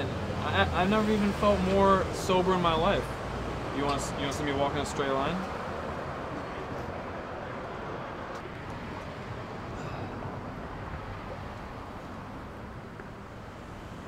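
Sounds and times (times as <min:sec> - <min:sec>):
distant traffic hum: 0:00.0 - 0:14.0.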